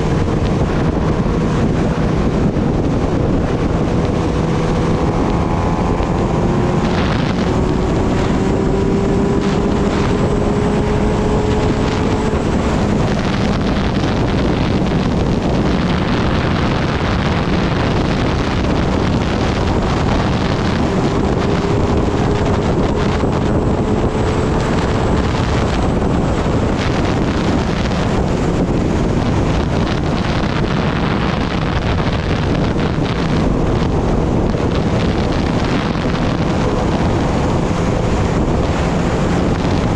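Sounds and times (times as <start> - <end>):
motorcycle engine: 0.0 - 39.9
wind rush on microphone: 0.0 - 39.9.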